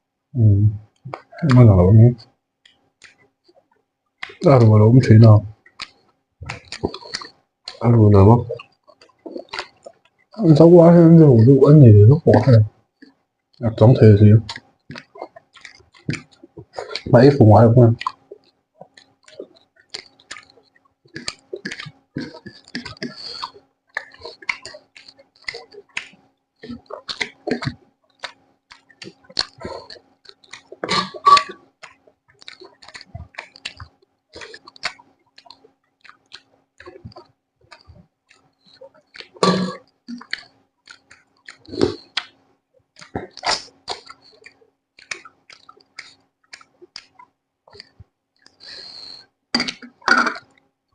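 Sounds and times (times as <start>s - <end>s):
person chewing food: 2.6s - 4.4s, 5.5s - 7.8s, 8.4s - 10.4s, 12.3s - 17.1s, 18.0s - 50.7s.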